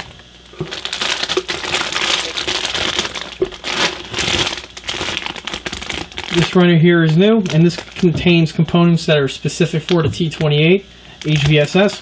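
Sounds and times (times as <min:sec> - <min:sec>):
plastic bags crinkling: 0:00.0 - 0:08.6, 0:09.6 - 0:10.6, 0:11.2 - 0:12.0.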